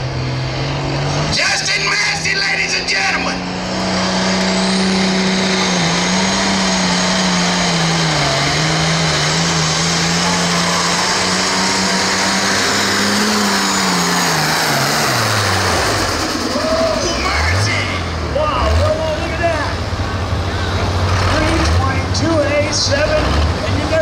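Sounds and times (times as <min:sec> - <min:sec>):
tractor diesel engine at full throttle: 0:00.0 - 0:24.0.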